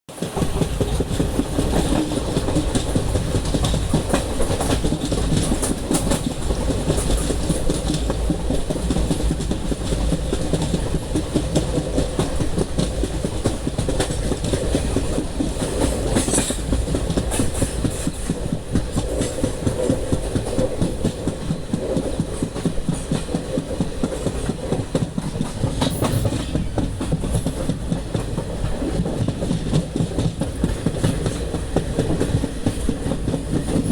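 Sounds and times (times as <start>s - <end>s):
train wheels clattering on rails: 0.1s - 33.9s.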